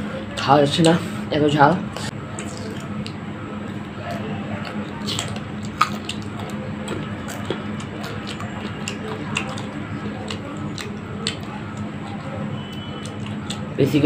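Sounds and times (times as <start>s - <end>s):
chewing crisp fruit: 1.9s - 14.0s
mouth clicks: 2.3s - 13.8s.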